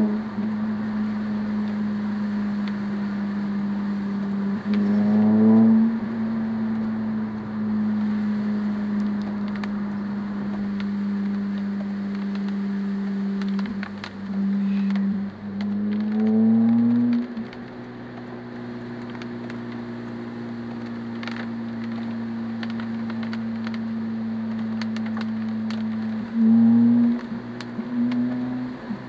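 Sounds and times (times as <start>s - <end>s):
car engine from inside cabin: 0.0s - 29.0s
rain ticking on windscreen: 0.0s - 29.0s.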